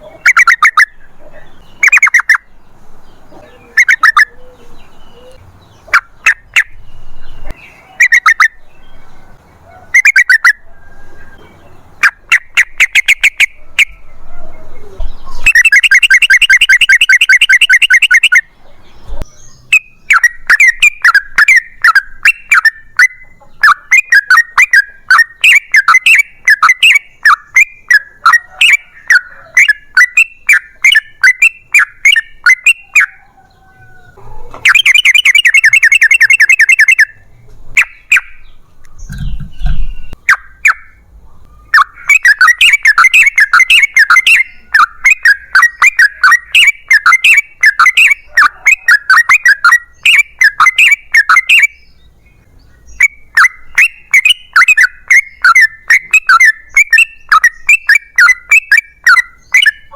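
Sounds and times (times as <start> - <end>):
bird chirping and trilling: 0.0 - 59.9.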